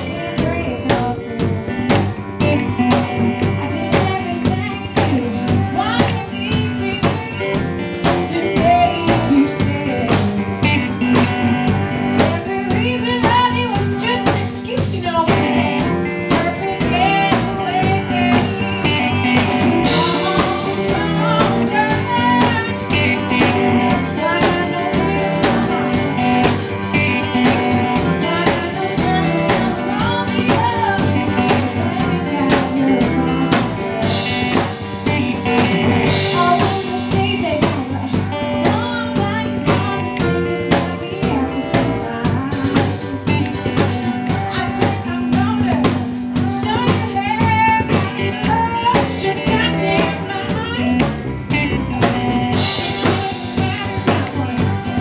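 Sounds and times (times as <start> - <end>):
drum kit beat: 0.0 - 55.0
electric guitar: 0.0 - 55.0
woman singing: 0.0 - 55.0.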